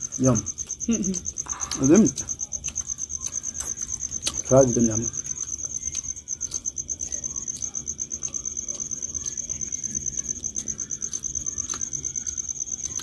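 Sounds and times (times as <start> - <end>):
cricket trilling: 0.0 - 13.0
people eating by hand: 0.0 - 13.0.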